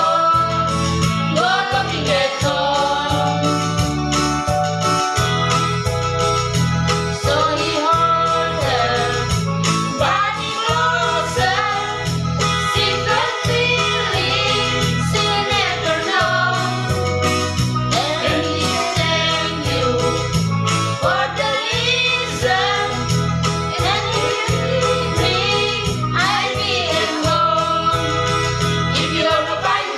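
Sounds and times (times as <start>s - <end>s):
electronic keyboard backing: 0.0s - 29.9s.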